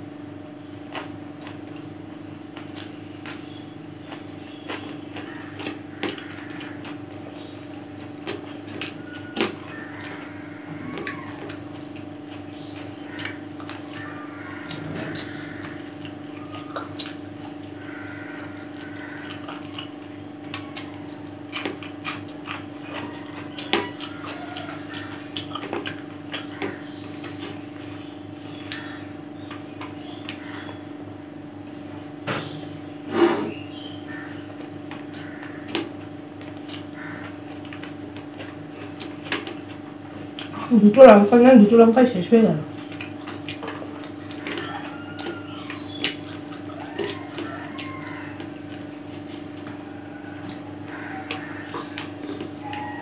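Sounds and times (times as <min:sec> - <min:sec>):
steady low hum: 0:00.0 - 0:53.0
wet chewing and lip smacks: 0:00.9 - 0:01.9, 0:02.5 - 0:30.4, 0:34.6 - 0:40.7, 0:42.7 - 0:52.9.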